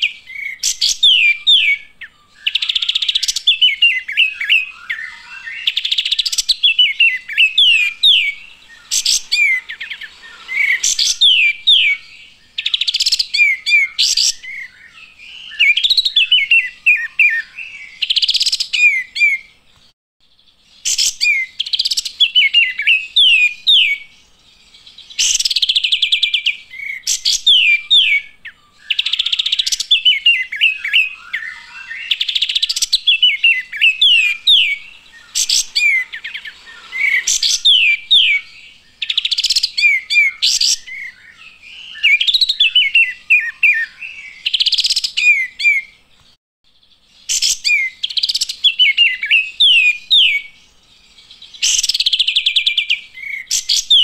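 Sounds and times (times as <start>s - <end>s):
bird singing rapid chirps: 0.0s - 54.0s.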